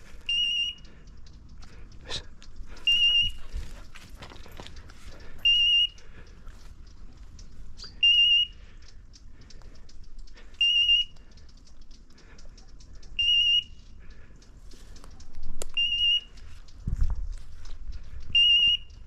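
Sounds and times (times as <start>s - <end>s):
faint crackling and clicks: 0.0s - 19.0s.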